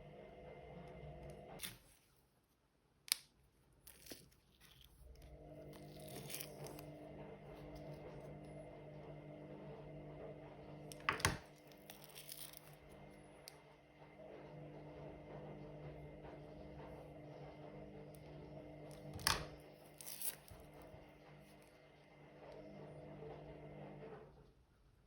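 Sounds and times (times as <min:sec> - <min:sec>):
washing machine motor hum: 0:00.0 - 0:01.6, 0:05.0 - 0:24.6.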